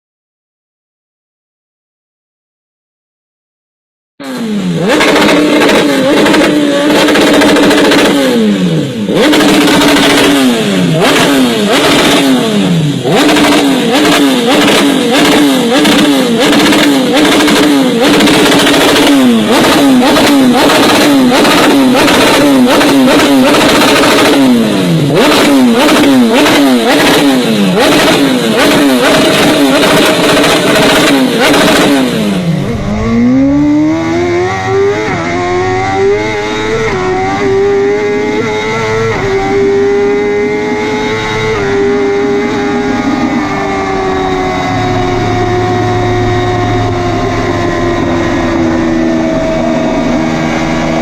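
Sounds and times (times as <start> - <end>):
motorcycle engine revving: 4.2 - 51.0.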